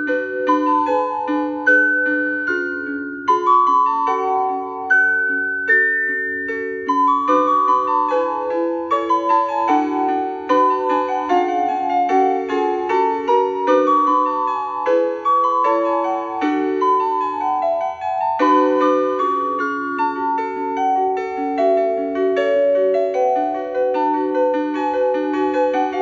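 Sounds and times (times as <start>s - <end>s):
electronic keyboard melody and chords: 0.0s - 26.0s.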